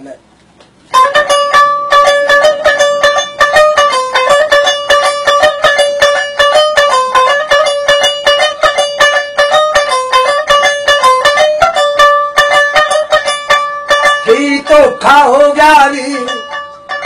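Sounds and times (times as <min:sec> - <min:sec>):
plucked one-string lute melody: 0:00.9 - 0:17.0.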